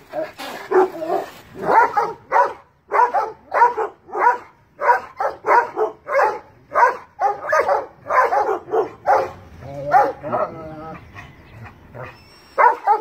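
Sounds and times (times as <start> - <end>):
large dogs barking: 0.0 - 13.0.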